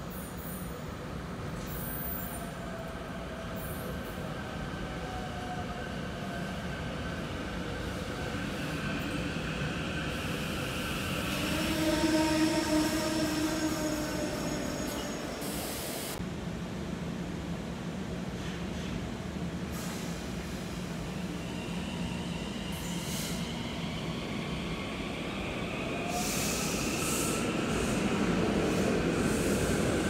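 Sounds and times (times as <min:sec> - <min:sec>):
train pulling into station: 0:00.0 - 0:30.0.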